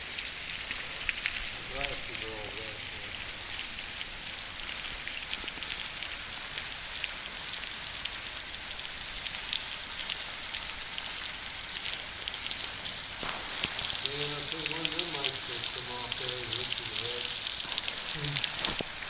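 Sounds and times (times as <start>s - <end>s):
waterfall splashing onto rock: 0.0s - 19.0s.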